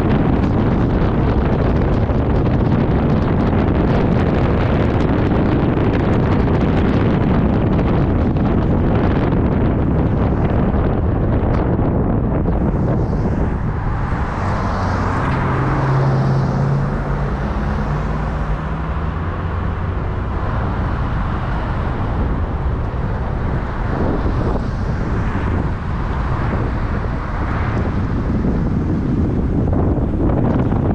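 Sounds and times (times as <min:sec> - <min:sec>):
low engine hum: 0:00.0 - 0:30.9
road and traffic noise: 0:00.0 - 0:30.9
wind buffeting microphone: 0:00.0 - 0:30.9.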